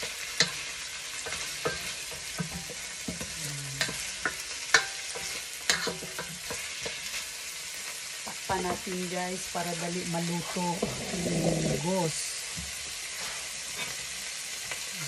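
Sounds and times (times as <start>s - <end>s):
meat and vegetables sizzling: 0.0s - 15.0s.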